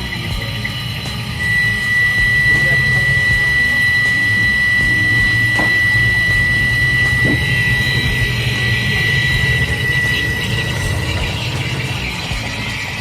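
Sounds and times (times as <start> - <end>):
electric water pump whistling: 0.0 - 13.0
pump motor hum: 0.0 - 13.0.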